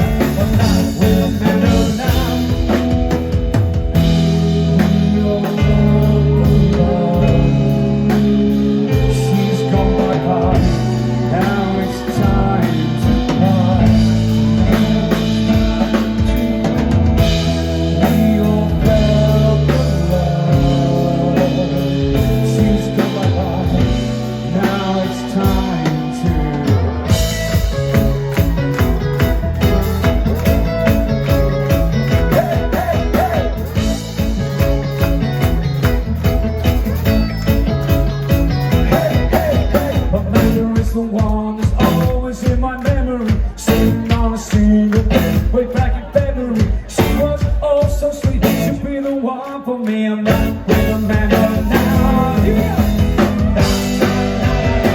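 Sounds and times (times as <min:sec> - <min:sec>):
person singing: 0:00.0 - 0:54.9
rock band playing: 0:00.0 - 0:54.9.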